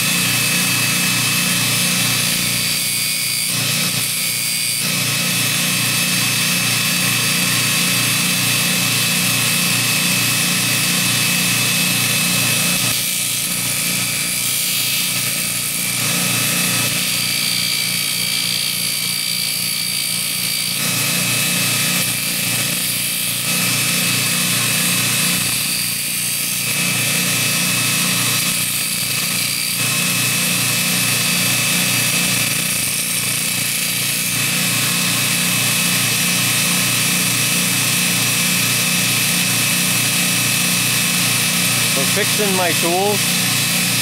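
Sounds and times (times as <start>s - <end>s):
bench grinder motor hum: 0.0s - 44.0s.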